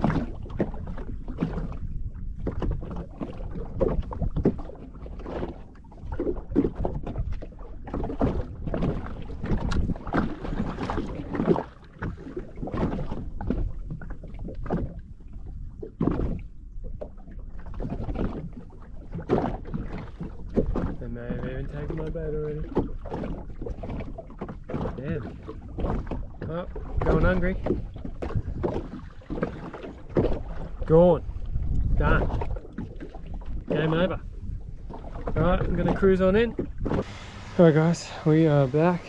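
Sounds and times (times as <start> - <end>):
water splashing against hull: 0.0 - 39.0.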